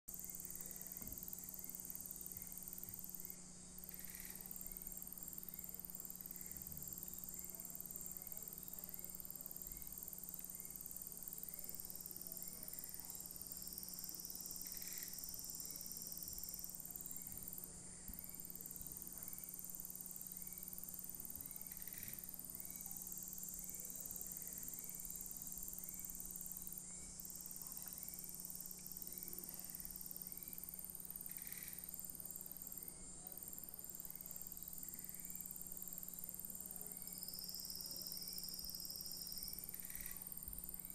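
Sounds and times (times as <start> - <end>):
faint low hum: 0.1 - 40.9
insects chirring: 0.1 - 40.9.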